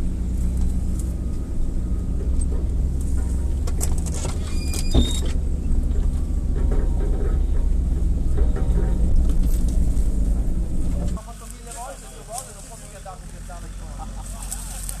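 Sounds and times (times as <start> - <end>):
vehicle engine at low revs: 0.0 - 15.0.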